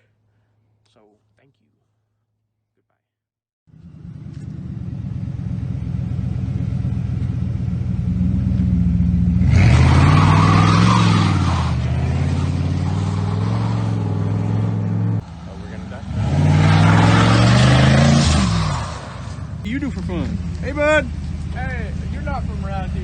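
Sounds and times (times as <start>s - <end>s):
truck engine with open exhaust: 3.7s - 23.0s.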